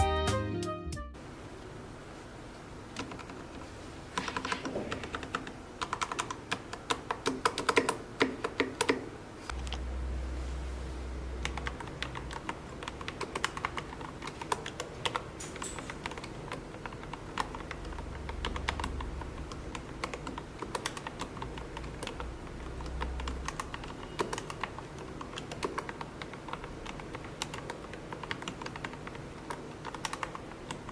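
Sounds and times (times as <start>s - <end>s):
mechanical keyboard typing: 2.9s - 3.6s, 4.2s - 9.1s, 11.4s - 30.9s.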